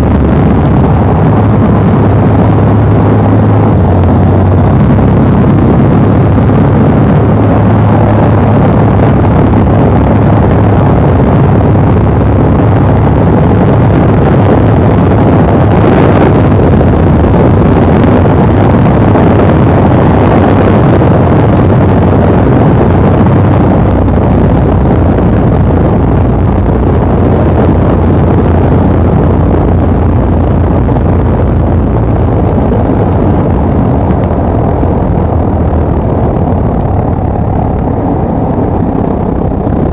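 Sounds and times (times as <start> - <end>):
plane engine and propeller drone: 0.0 - 39.9
rushing wind: 0.0 - 39.9.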